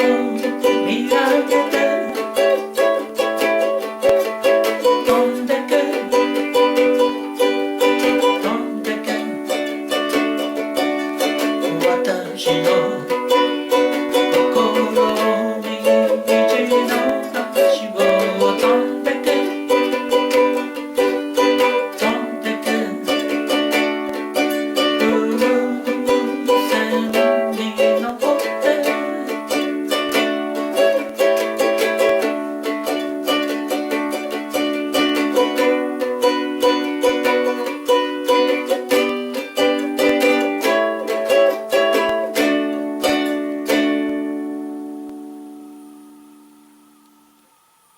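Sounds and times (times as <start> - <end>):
ukulele strumming chords: 0.0 - 47.9.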